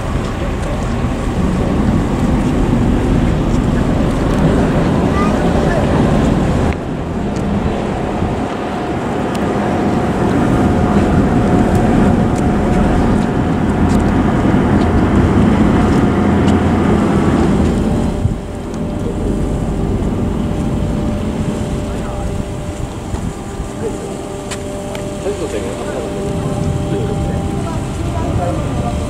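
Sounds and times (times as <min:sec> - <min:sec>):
churning water: 0:00.0 - 0:29.0
ship engines low rumble: 0:00.0 - 0:29.0.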